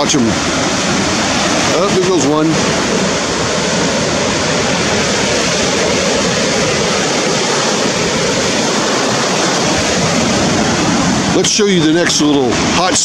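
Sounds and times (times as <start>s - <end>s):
ocean surf breaking on rocks: 0.0s - 13.0s.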